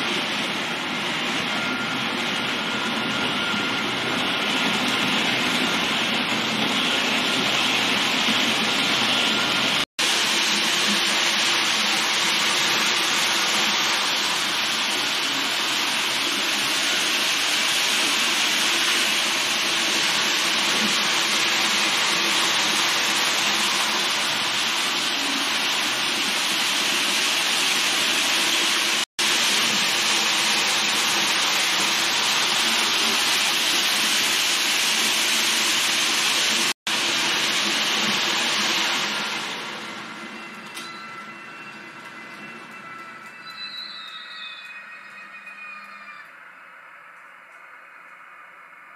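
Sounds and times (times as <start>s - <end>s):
model train running on track: 0.0s - 48.9s.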